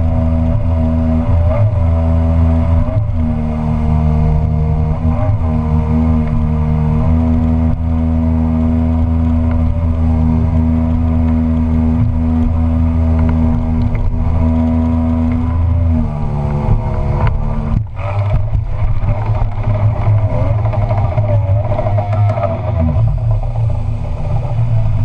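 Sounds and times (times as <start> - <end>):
outboard engine running hard: 0.0 - 25.0.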